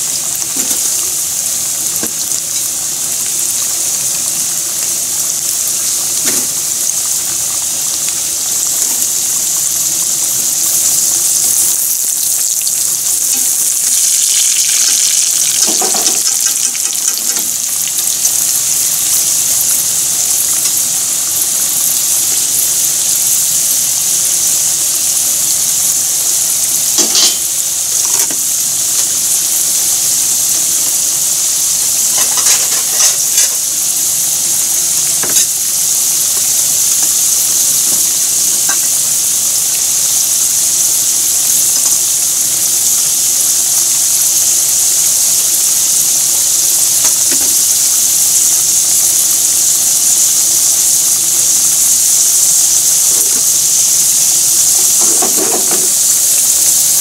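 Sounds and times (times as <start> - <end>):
hot oil sizzling: 0.0 - 57.0
oil crackles and pops: 0.0 - 57.0.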